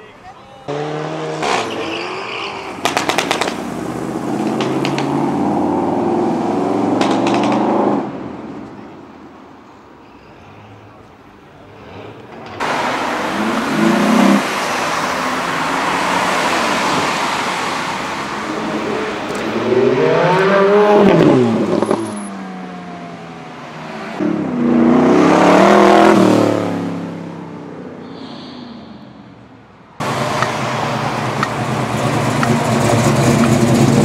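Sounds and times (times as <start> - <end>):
car engine revving: 0.7 - 8.3, 12.6 - 34.0
car engines accelerating hard: 0.7 - 8.8, 11.6 - 28.3, 28.9 - 34.0.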